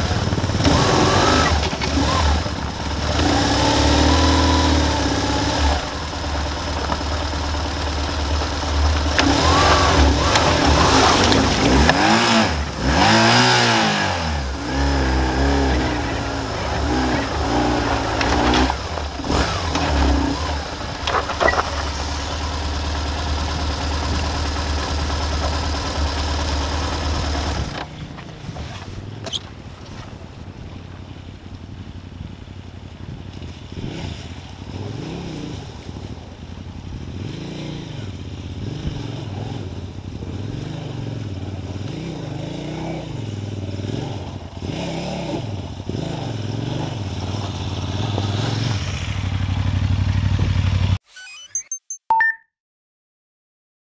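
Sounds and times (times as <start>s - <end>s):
distant motorcycle revving: 0.0s - 30.8s, 33.1s - 51.0s
motorcycle engine running: 0.0s - 51.0s.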